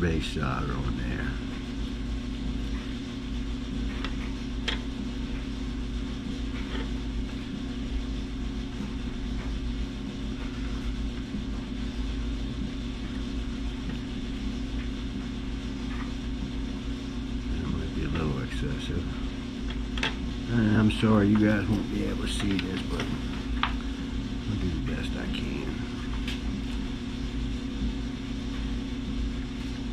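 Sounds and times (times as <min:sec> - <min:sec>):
low buzzy hum: 0:00.0 - 0:29.9.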